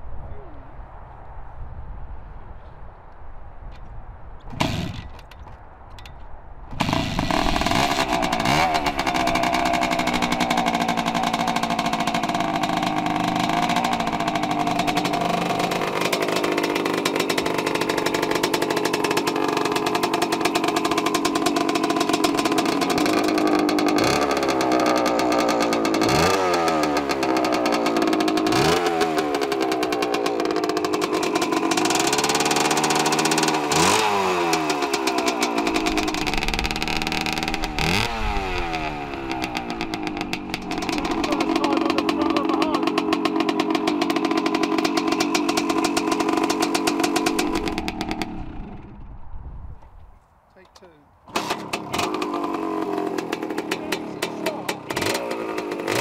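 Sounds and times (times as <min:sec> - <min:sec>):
two-stroke motorcycle engine revving: 0:04.5 - 0:05.2, 0:06.7 - 0:49.1, 0:50.6 - 0:56.0
motorcycle kick-start: 0:06.7 - 0:49.1, 0:50.6 - 0:56.0.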